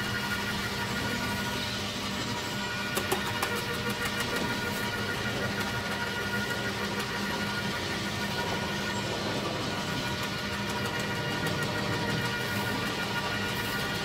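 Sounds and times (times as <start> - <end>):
garden shredder motor whirring: 0.0 - 14.0.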